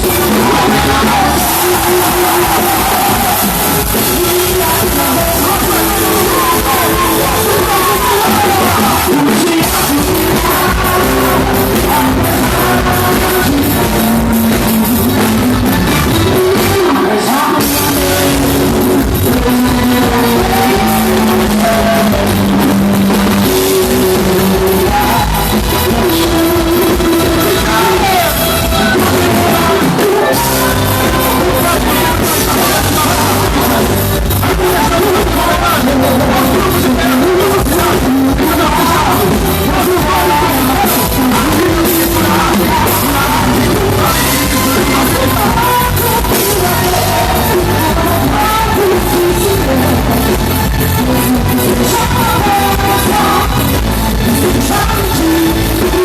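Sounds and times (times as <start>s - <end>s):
loud music with singing: 0.0s - 56.0s.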